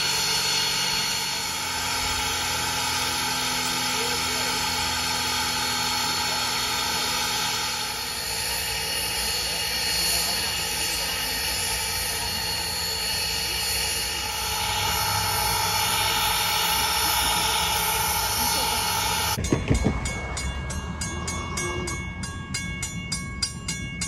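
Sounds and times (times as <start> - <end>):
continuous whine: 0.0 - 24.0
steam locomotive hissing: 0.0 - 24.0.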